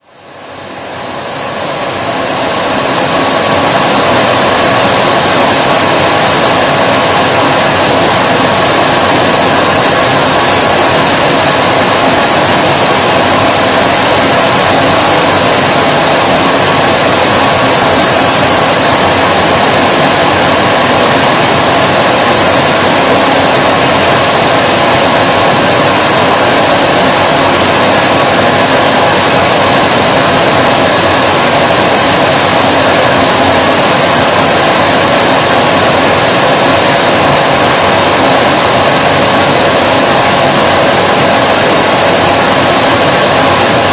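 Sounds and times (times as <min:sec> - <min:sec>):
vacuum cleaner motor running: 0:00.4 - 0:43.9.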